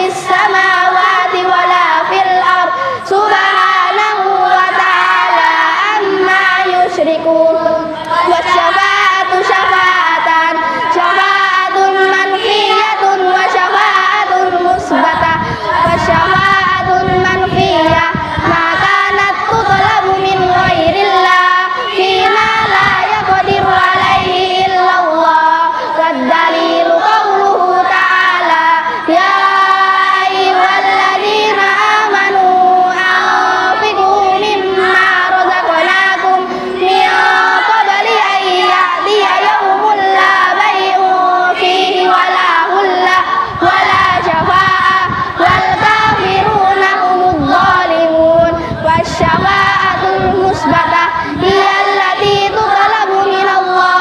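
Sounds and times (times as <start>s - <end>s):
children chanting in unison: 0.0s - 54.0s.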